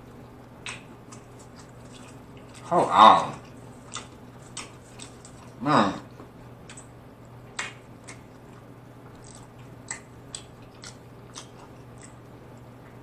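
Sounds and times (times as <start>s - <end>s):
faint low hum: 0.0s - 13.0s
person chewing wetly: 0.6s - 13.0s.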